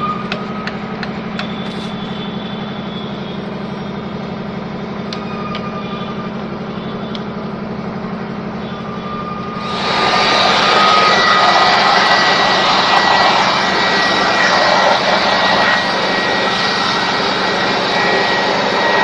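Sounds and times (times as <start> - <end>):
motor humming steadily: 0.0 - 19.0.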